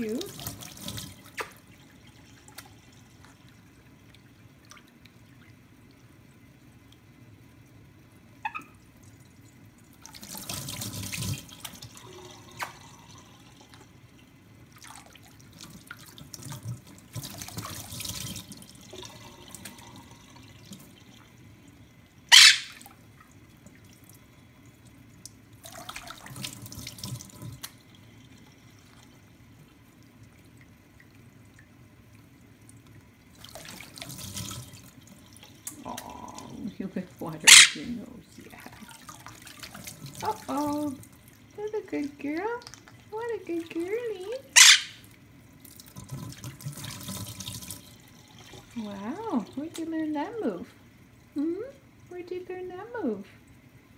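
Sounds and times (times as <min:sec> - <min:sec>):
parrot splashing: 0:00.0 - 0:06.1, 0:08.4 - 0:13.9, 0:14.6 - 0:50.6.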